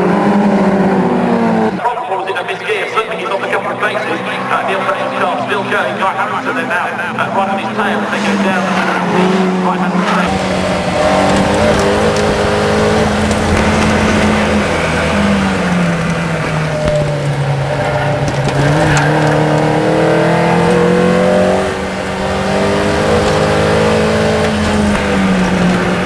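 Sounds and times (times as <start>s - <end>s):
racing car engine revving: 0.0s - 1.8s, 2.7s - 26.0s.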